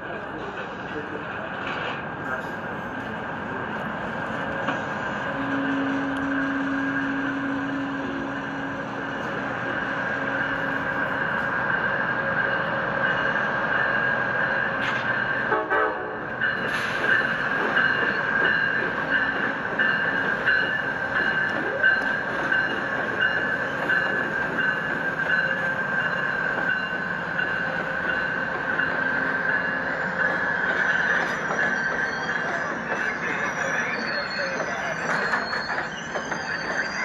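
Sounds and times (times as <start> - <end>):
train mechanical rumble: 0.0 - 37.0.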